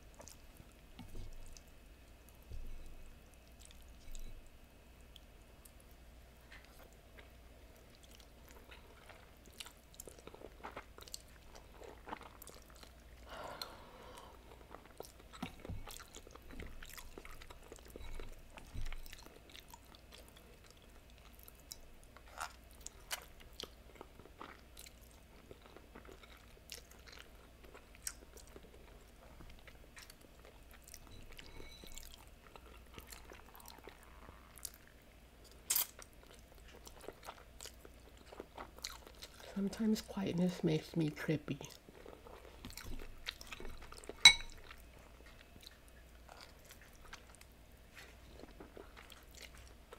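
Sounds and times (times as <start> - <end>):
chewing: 0.1 - 1.7, 2.3 - 39.6, 41.6 - 49.9.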